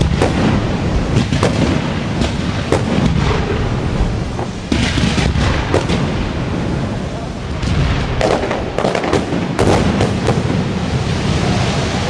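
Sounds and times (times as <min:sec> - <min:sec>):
fireworks bangs: 0:00.0 - 0:12.0
hissing rush: 0:00.0 - 0:12.0.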